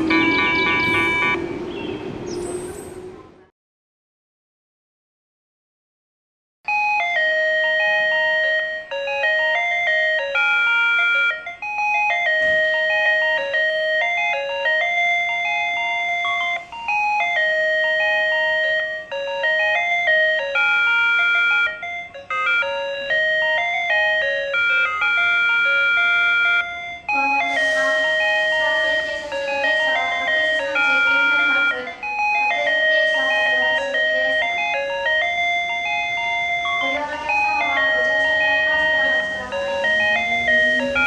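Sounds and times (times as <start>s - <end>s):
electronic chime melody: 0.0s - 1.9s, 6.7s - 41.0s.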